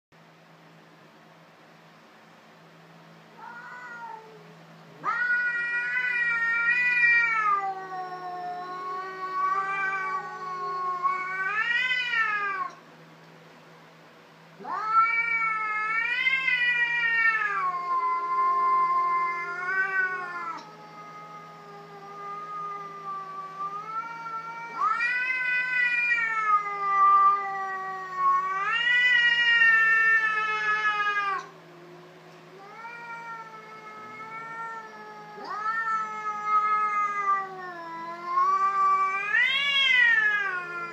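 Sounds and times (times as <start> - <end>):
cats yowling in a fight: 3.3 - 12.8, 14.6 - 40.9.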